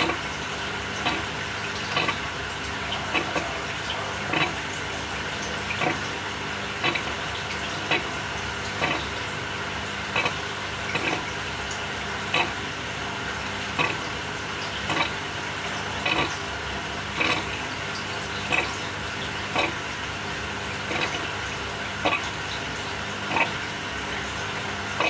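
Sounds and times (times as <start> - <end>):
washing machine agitating: 0.0 - 25.0.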